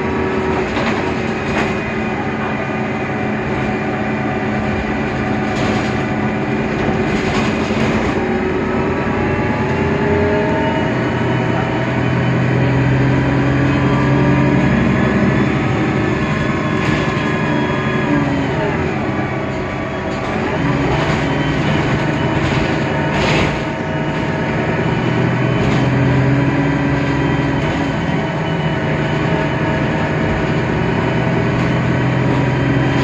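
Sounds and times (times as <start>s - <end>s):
bus diesel engine whining: 0.0s - 33.0s.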